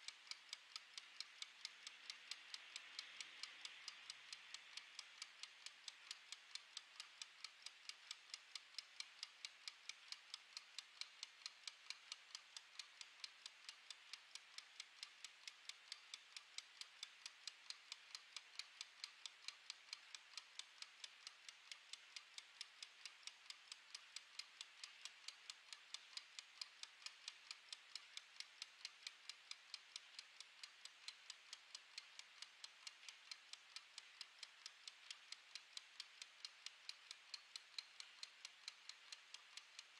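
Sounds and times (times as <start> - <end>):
kitchen timer ticking: 0.0 - 39.9.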